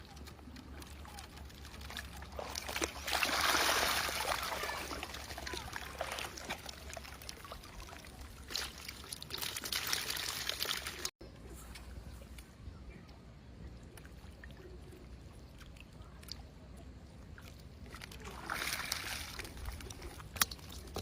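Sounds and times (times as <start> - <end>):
water splashing and pouring: 0.0 - 11.1, 13.9 - 21.0.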